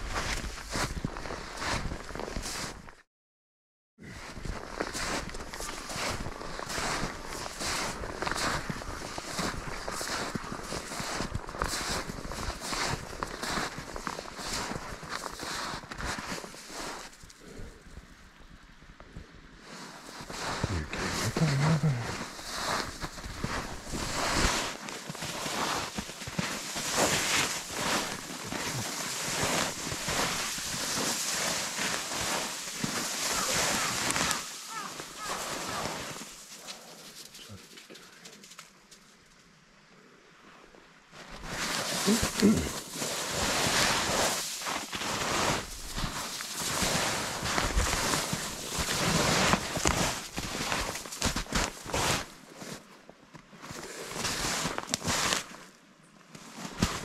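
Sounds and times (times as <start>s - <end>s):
footsteps crunching through snow: 0.0s - 3.0s, 4.0s - 17.4s, 19.6s - 38.7s, 41.1s - 55.7s, 56.4s - 57.0s
rustling of brush and clothing: 0.0s - 3.0s, 4.0s - 57.0s.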